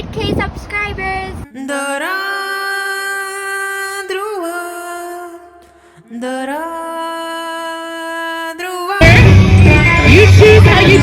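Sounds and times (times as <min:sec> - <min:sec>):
person singing long notes: 0:01.5 - 0:11.0.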